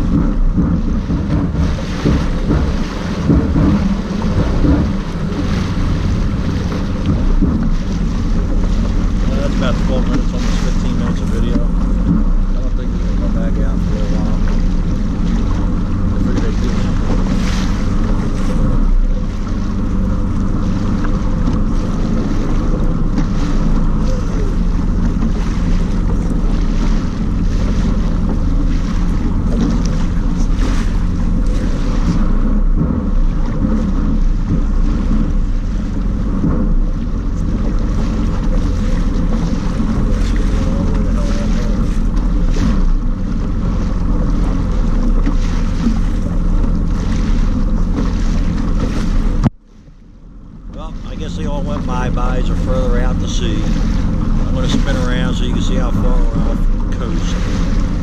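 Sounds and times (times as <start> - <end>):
water splashing at hull: 0.0 - 58.0
watercraft engine humming: 0.0 - 58.0
wind buffeting microphone: 0.0 - 58.0.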